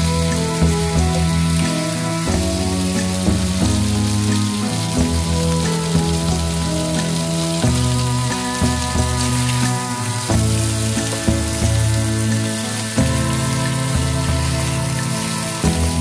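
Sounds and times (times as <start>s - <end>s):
background music: 0.0s - 16.0s
chicken sizzling in oil: 0.0s - 16.0s.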